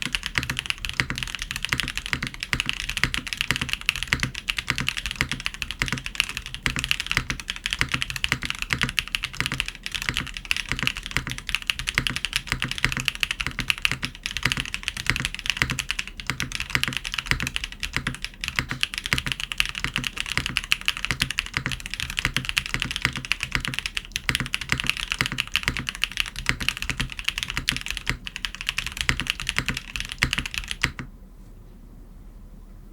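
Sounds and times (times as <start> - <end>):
typing on mechanical keyboard: 0.0 - 31.1.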